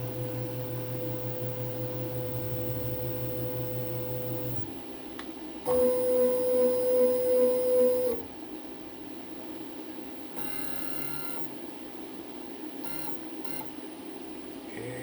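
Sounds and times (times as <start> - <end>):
mill axis drive whining: 0.0 - 4.8, 5.6 - 8.4, 10.2 - 15.0
steady machine hum: 0.0 - 15.0.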